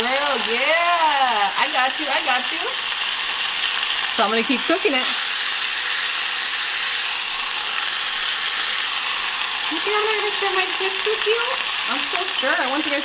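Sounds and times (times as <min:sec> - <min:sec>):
steak sizzling in grill pan: 0:00.0 - 0:13.0.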